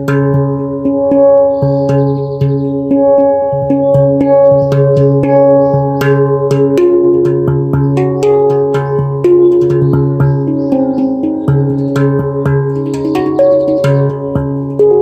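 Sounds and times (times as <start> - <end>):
handpan melody: 0.0 - 15.0.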